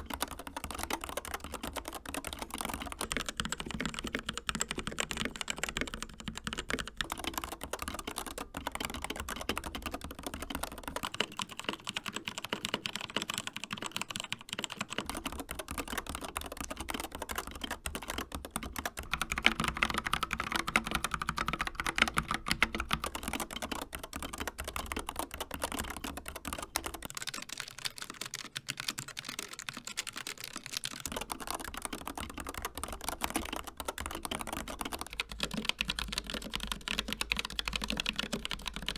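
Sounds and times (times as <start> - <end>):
typing on mechanical keyboards: 0.0 - 38.9.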